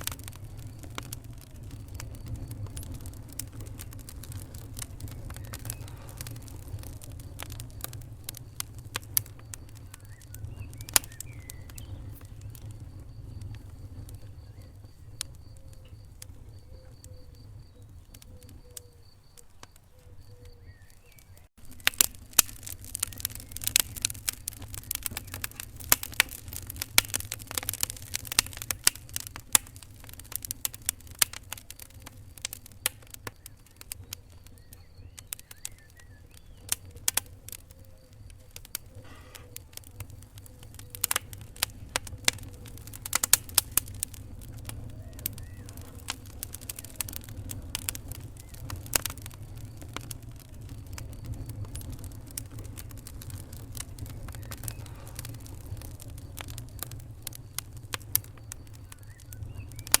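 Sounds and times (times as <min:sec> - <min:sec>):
low rumble of flames: 0:00.0 - 1:00.0
wood fire crackling and popping: 0:00.0 - 1:00.0.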